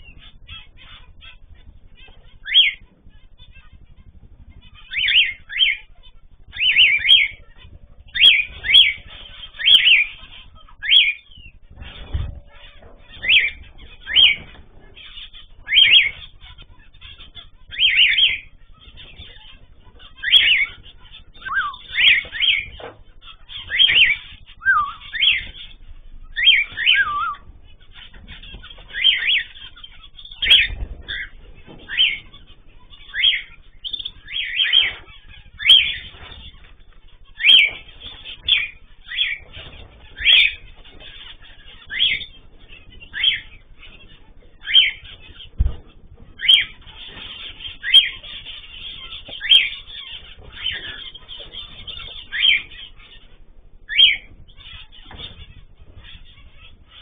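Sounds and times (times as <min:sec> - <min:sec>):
birds chirping and whistling: 0:00.0 - 0:57.0
low thumps: 0:06.2 - 0:17.8, 0:18.4 - 0:57.0.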